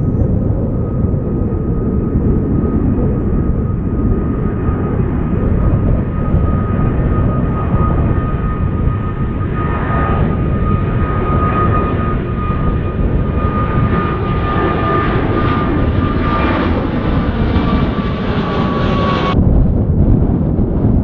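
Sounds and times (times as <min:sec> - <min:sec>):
jet engine roar with fan whine: 0:00.0 - 0:21.0.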